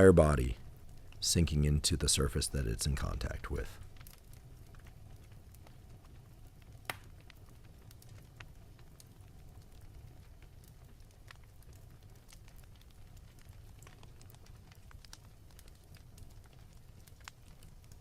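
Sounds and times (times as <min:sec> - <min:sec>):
fire low rumble: 0:00.0 - 0:18.0
fire popping and snapping: 0:00.0 - 0:18.0.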